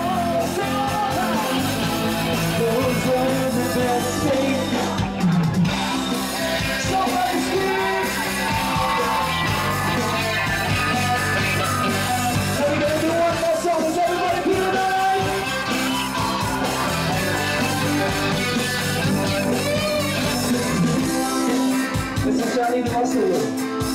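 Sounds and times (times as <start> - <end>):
person singing: 0.0 - 22.6
bass guitar: 0.0 - 23.9
drums: 0.0 - 23.9
electric guitar: 0.0 - 23.9.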